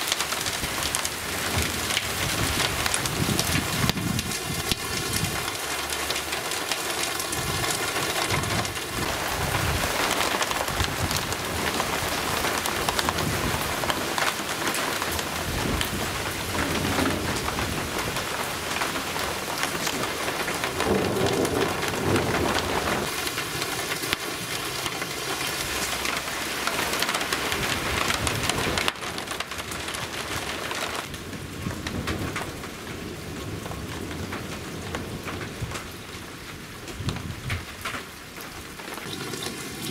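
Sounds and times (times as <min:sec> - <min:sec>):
heavy rain pouring: 0:00.0 - 0:39.9
thunder rumbling: 0:00.3 - 0:24.6, 0:27.0 - 0:39.9.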